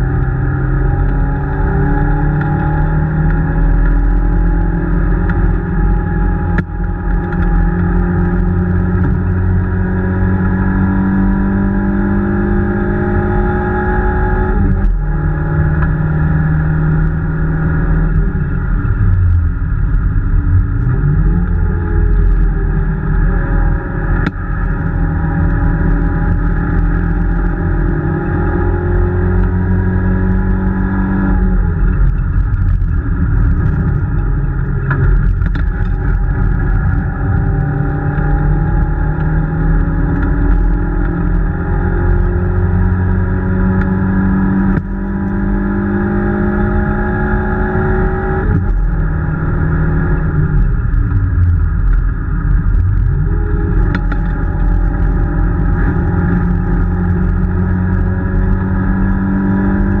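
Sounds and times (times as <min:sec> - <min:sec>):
rally car engine revving: 0:00.0 - 1:00.0.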